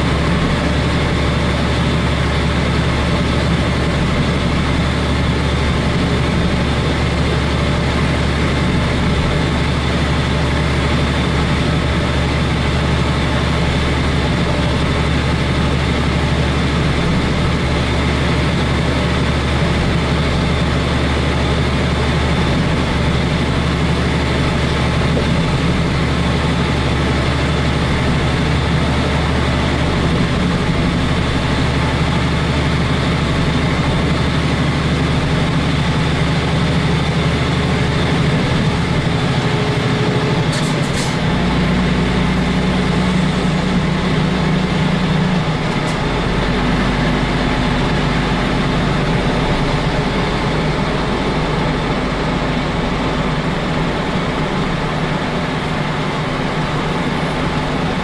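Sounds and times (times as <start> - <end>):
diesel truck engine humming: 0.0 - 58.0.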